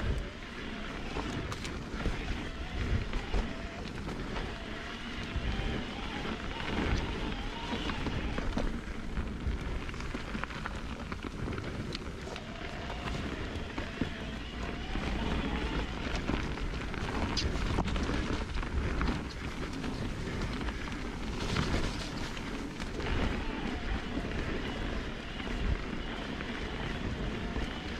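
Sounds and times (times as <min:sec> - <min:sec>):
bike tyre rumble on dirt: 0:00.0 - 0:27.9.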